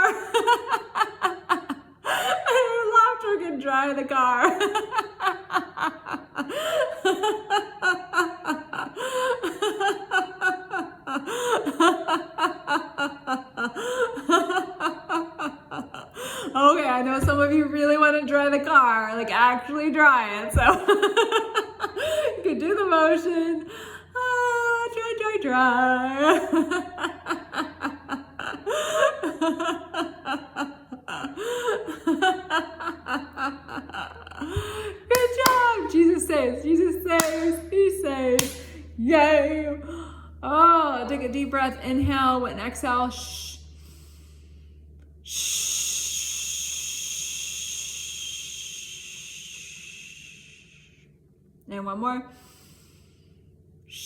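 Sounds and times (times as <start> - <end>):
woman laughing: 0.0 - 43.5.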